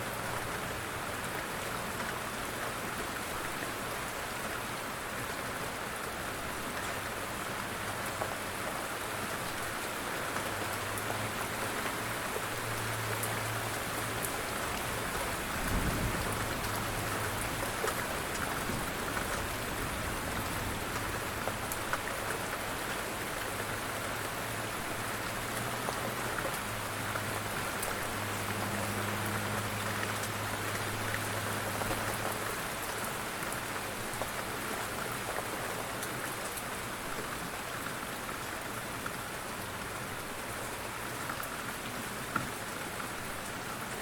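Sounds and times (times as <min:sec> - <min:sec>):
rain falling on a surface: 0:00.0 - 0:44.0.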